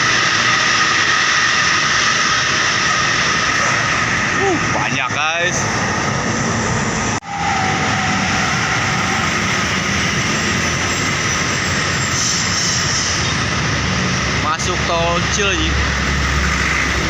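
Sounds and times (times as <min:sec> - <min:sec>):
buses and trucks passing: 0:00.0 - 0:17.0
heavy road traffic: 0:00.0 - 0:17.0.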